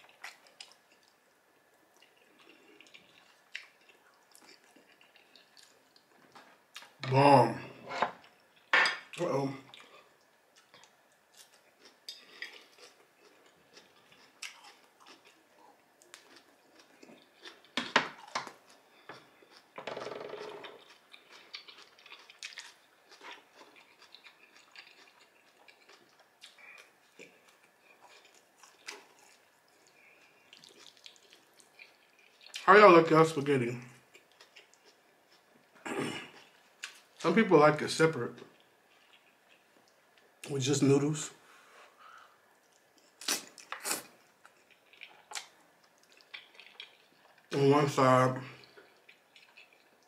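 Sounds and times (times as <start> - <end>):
chewing food: 0.0 - 7.0, 9.6 - 32.6, 34.0 - 37.2, 38.4 - 40.5, 42.0 - 47.6, 48.6 - 50.0.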